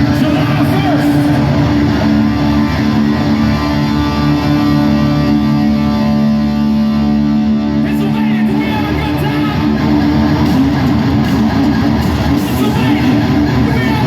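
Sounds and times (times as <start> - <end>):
distorted electric guitar: 0.0 - 14.0
rock band playing loudly: 0.0 - 14.0.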